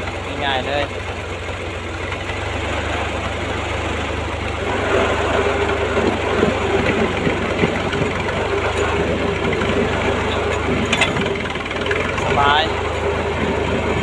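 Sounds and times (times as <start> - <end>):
auger whine: 0.0 - 14.0
tractor diesel engine running: 0.0 - 14.0.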